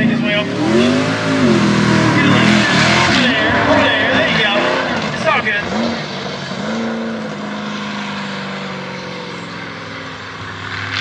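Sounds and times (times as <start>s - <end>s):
deeper engine note: 0.0s - 10.9s
truck engine at high revs: 0.0s - 11.0s.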